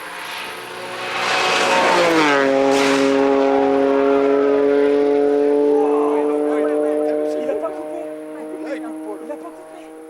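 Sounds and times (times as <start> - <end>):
rally car engine at speed: 0.0 - 10.0.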